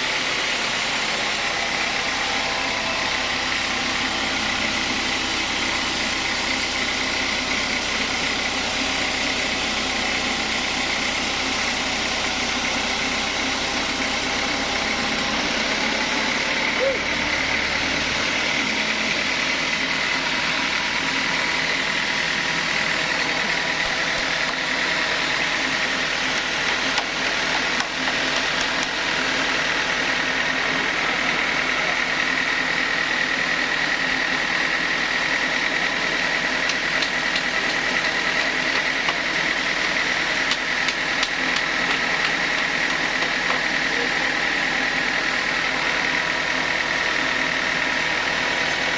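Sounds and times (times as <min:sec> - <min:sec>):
sawmill saw cutting log: 0:00.0 - 0:48.9.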